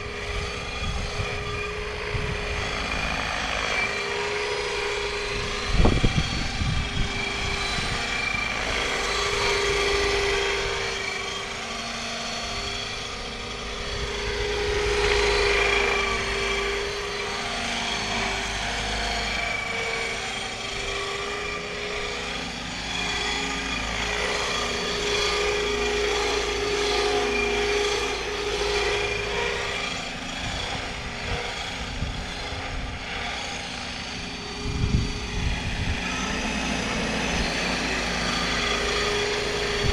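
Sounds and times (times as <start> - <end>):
model helicopter rotor and motor: 0.0 - 39.9
turbine whine from sound module: 0.0 - 39.9.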